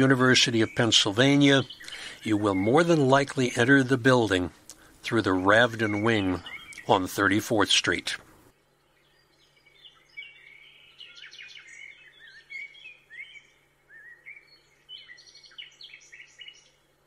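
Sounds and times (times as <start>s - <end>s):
low steady hum: 0.0s - 17.0s
songbirds chirping: 0.0s - 17.0s.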